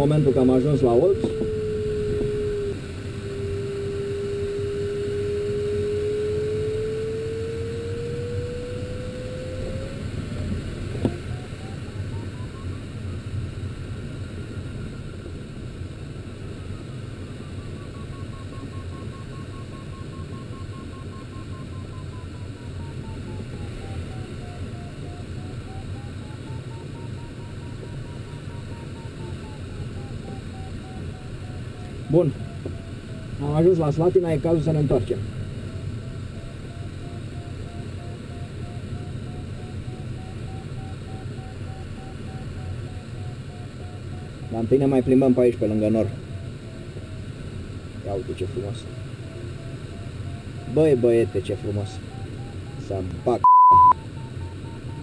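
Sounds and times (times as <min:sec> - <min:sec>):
variometer tone: 0:00.0 - 0:55.0.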